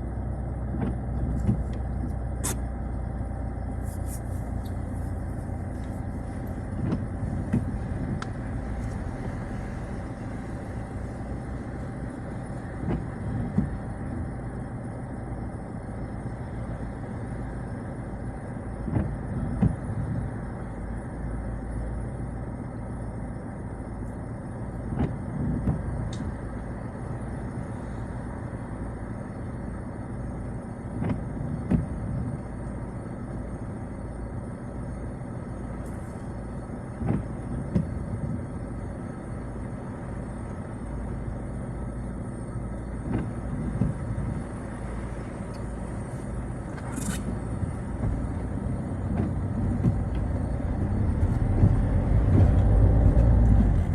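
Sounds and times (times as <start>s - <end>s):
engine and road rumble: 0.0s - 53.9s.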